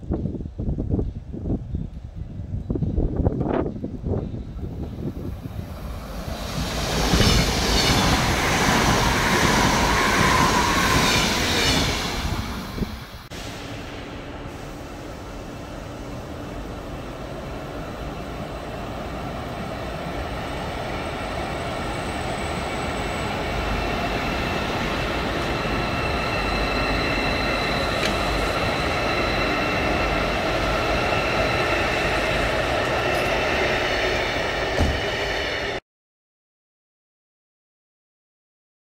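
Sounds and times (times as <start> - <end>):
train wheels rumbling on rail: 0.0 - 35.8
high-pitched train whine: 4.1 - 35.8.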